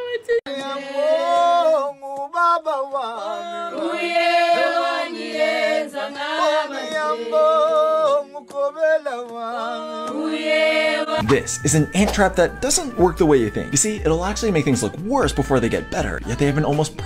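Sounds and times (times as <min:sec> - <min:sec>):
voices singing: 0:00.0 - 0:17.0.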